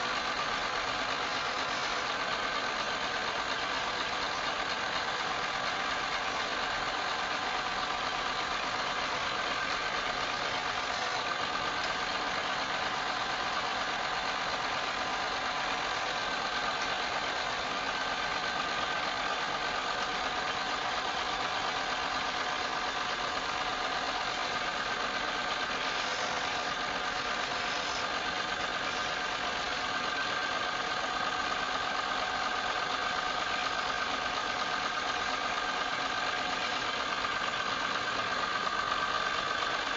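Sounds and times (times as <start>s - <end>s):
wood lathe motor whine: 0.0s - 39.9s.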